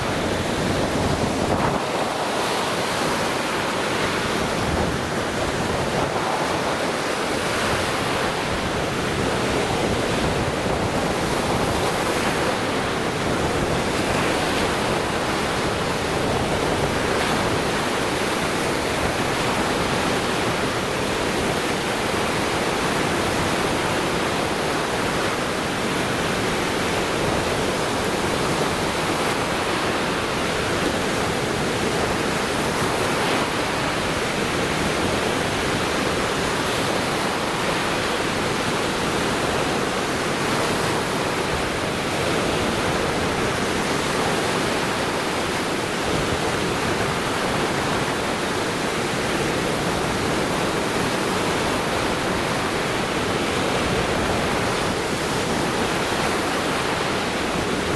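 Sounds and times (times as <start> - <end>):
waves washing on shore: 0.0 - 57.9.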